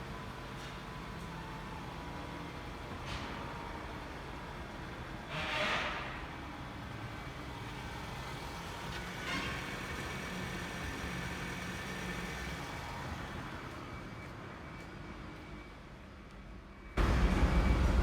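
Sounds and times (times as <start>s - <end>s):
petrol engine idling: 0.0s - 15.3s.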